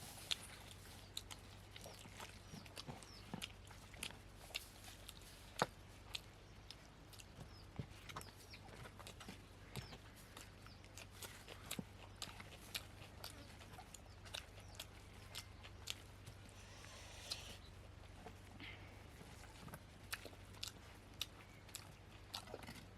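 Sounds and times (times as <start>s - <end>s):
chewing and eating smacks: 0.0s - 22.9s.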